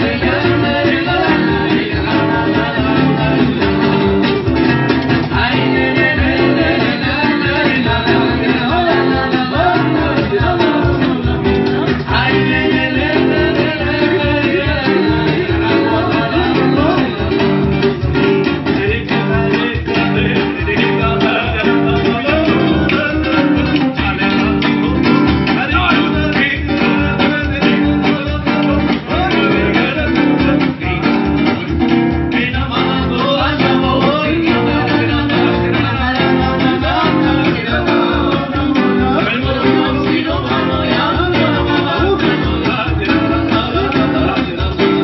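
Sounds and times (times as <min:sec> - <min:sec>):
woman singing: 0:00.0 - 0:03.8, 0:05.2 - 0:31.2, 0:32.3 - 0:45.0
cajon and hand drum beat: 0:00.0 - 0:45.0
strummed acoustic guitars: 0:00.0 - 0:45.0.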